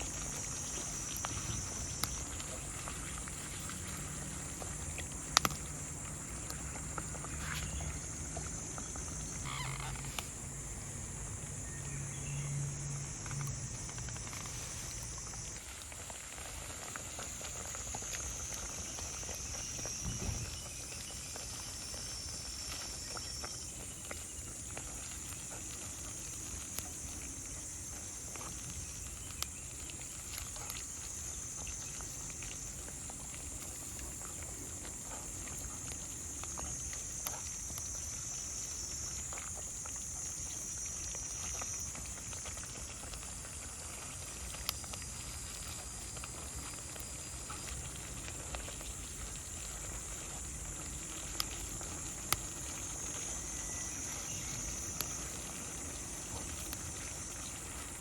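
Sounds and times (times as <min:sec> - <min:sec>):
campfire crackling pops: 0:00.0 - 0:58.0
insects chirping: 0:00.0 - 0:58.0.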